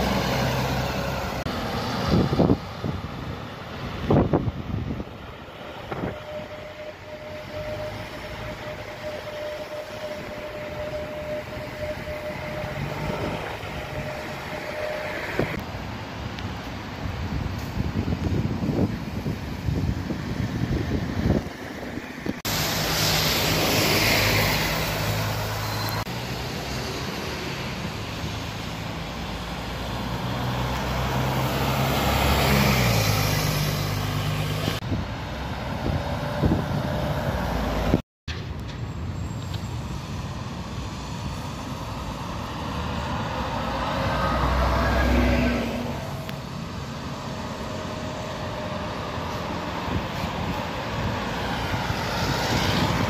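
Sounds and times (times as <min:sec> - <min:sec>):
diesel buses driving past: 0:00.0 - 0:53.0
traffic noise: 0:00.0 - 0:53.0.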